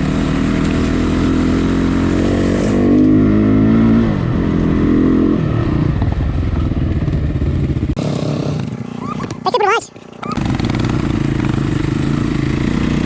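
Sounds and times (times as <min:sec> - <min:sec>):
off-road motorcycle engine revving: 0:00.0 - 0:13.0.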